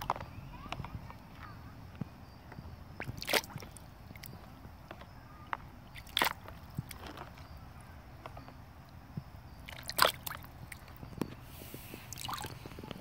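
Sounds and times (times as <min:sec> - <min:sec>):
water sloshing in a plastic tub: 0:02.4 - 0:13.0.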